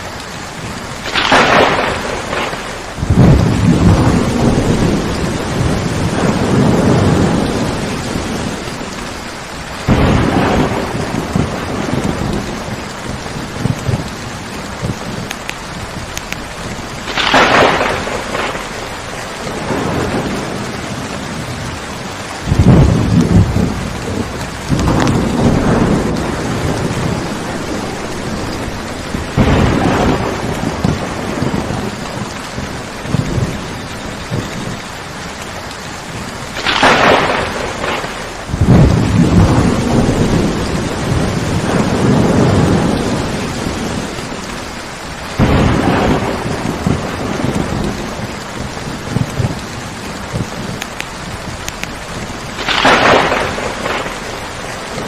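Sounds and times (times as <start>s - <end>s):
steady rain: 0.0s - 55.0s
thunder rolling and cracking: 0.0s - 55.0s.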